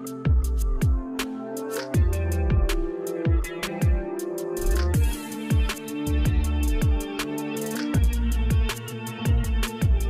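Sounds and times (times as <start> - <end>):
electronic music with beat: 0.0 - 10.0.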